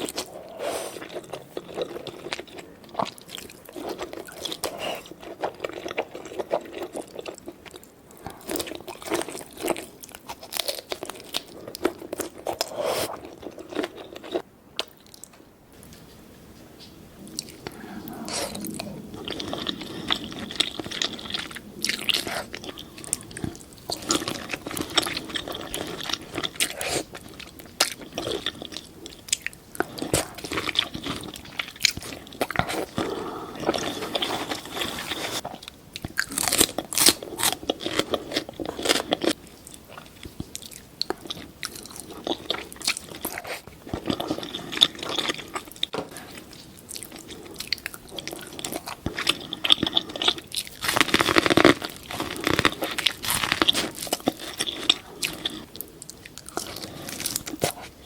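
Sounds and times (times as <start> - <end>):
crunching and wet chewing: 0.0 - 15.4, 17.3 - 58.0.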